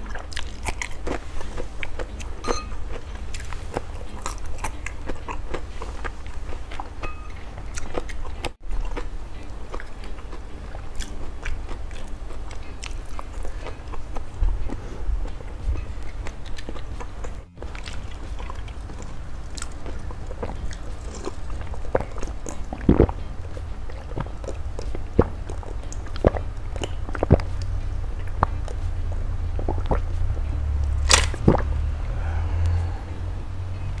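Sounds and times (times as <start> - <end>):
mouth sounds of eating: 0.0 - 30.6
steady low hum: 0.0 - 34.0.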